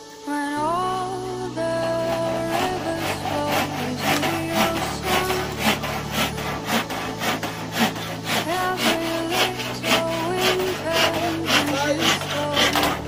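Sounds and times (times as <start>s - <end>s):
handsaw rasping through wood: 1.8s - 13.0s.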